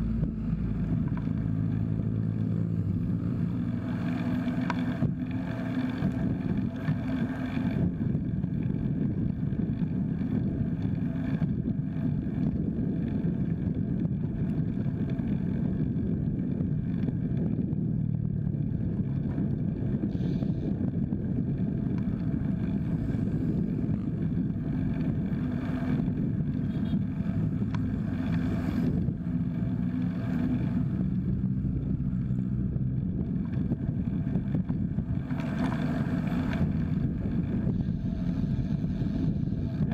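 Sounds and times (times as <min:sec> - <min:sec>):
bike tyres rolling on road: 0:00.0 - 0:39.9
wind buffeting microphone: 0:00.0 - 0:39.9.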